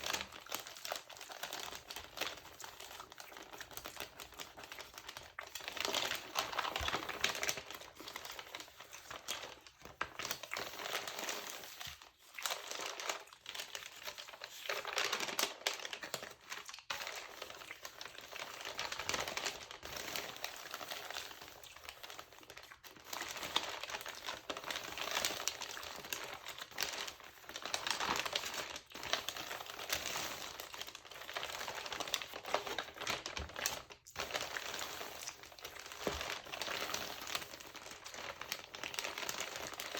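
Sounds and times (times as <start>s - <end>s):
glossy paper crinkling: 0.0s - 39.9s.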